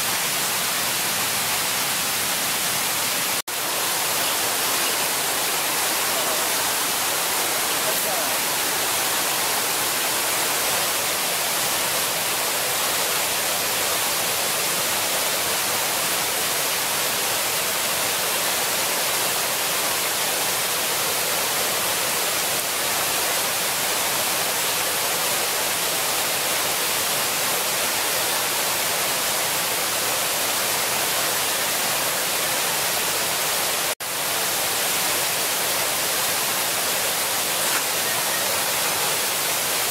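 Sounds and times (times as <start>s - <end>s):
running water hissing: 0.0s - 39.9s.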